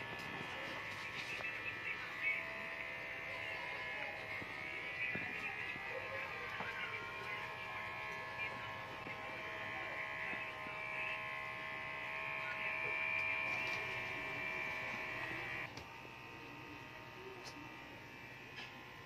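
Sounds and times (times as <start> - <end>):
electric hair clipper buzzing: 0.0 - 19.0.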